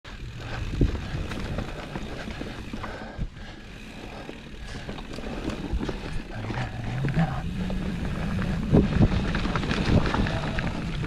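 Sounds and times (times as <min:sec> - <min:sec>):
bike rattling on dirt trail: 0:00.1 - 0:11.0.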